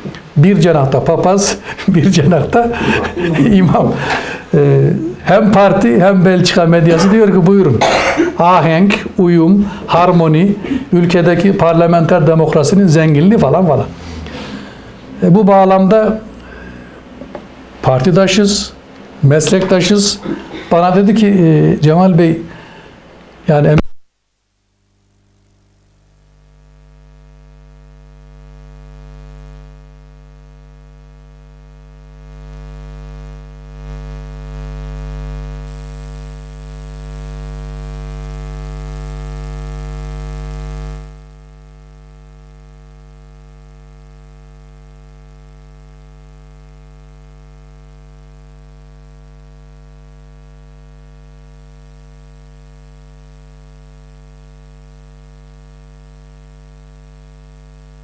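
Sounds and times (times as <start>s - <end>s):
electrical mains hum: 0.0s - 58.0s
thin high whine: 0.5s - 18.8s, 24.4s - 58.0s.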